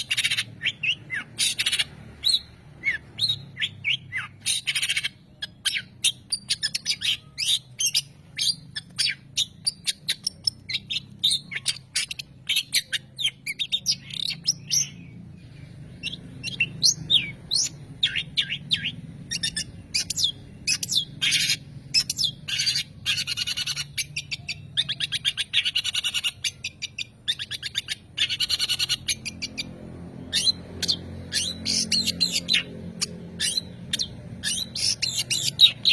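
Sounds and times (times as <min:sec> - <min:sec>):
bird singing chirps and trills: 0:00.0 - 0:35.9.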